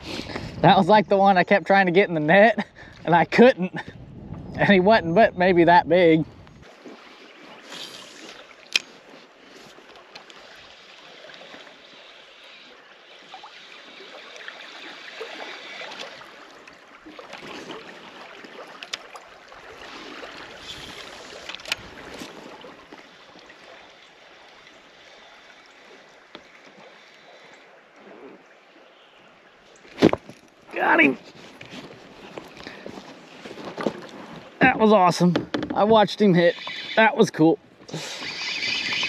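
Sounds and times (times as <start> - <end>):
river water lapping against kayak: 0.0 - 39.0.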